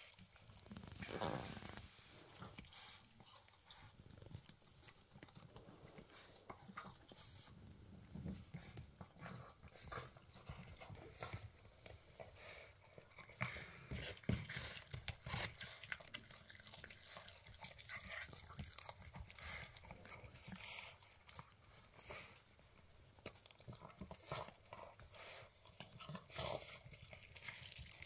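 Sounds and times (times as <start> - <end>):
puppy gnawing and crunching: 0.0 - 28.0.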